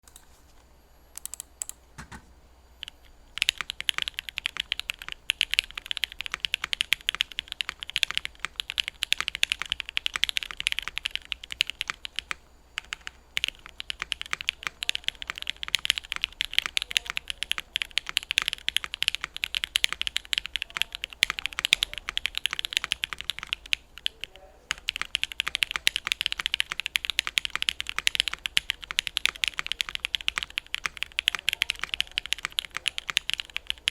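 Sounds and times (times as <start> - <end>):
mechanical keyboard typing: 1.2 - 2.2, 2.8 - 33.9.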